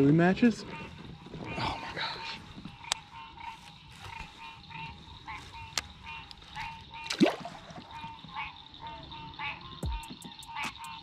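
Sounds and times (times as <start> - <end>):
frogs croaking: 0.0 - 11.0
high insect buzz: 0.7 - 11.0.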